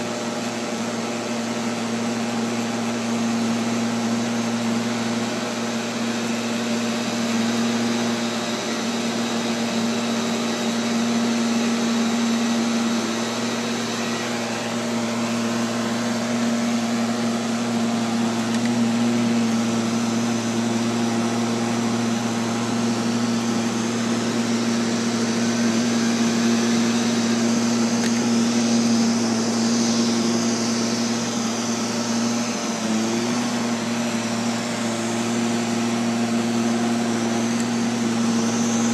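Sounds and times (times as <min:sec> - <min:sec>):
robotic vacuum cleaner whirring: 0:00.0 - 0:38.9.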